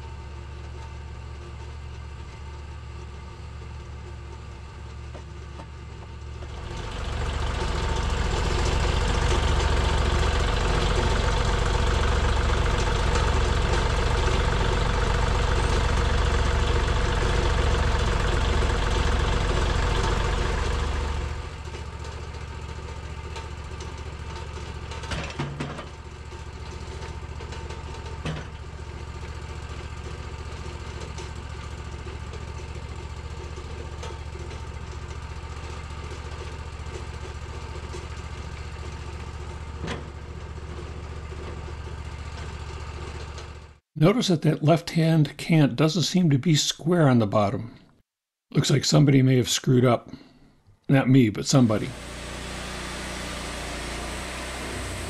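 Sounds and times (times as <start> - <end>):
sawmill engine running: 0.0 - 43.8, 51.5 - 55.0.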